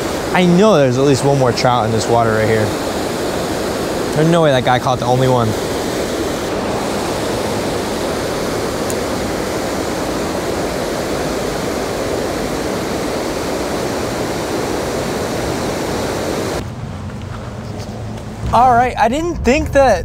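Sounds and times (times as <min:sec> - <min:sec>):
water rushing over weir: 0:00.0 - 0:16.6.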